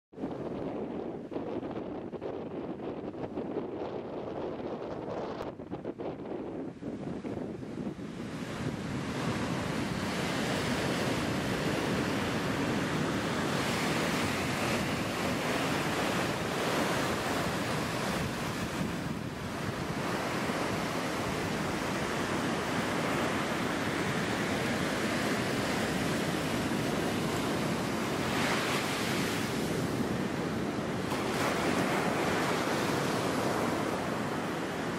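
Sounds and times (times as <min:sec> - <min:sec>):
surf breaking on beach: 0:00.2 - 0:34.9
wind buffeting microphone: 0:00.2 - 0:34.9.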